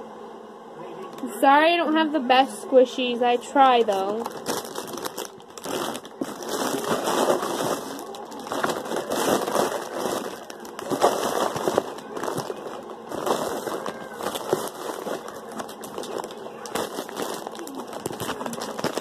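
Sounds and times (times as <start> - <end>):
plastic packaging crinkling: 3.6 - 19.0
cardboard box rustling: 3.8 - 19.0.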